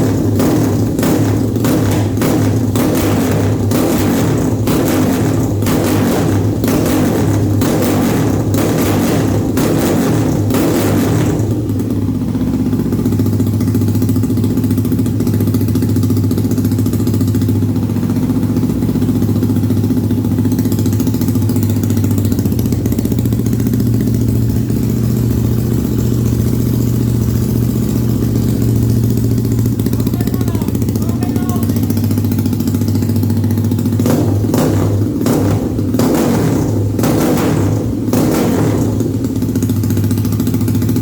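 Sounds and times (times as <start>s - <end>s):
motorcycle engine revving and idling: 0.0s - 41.0s.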